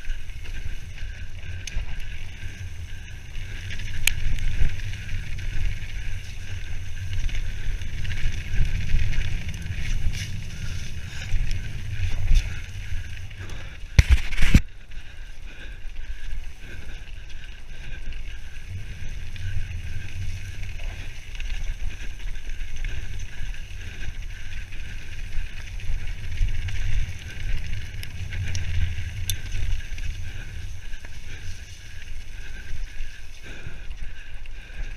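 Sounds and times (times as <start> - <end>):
bike rattling over ground: 0.0 - 34.9
bike tyres rumbling: 0.0 - 34.9
wind buffeting microphone: 0.0 - 34.9.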